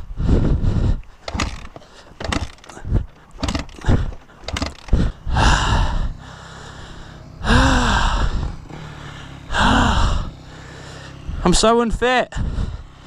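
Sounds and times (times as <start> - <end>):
man breathing hard: 0.0 - 11.4, 12.3 - 13.0.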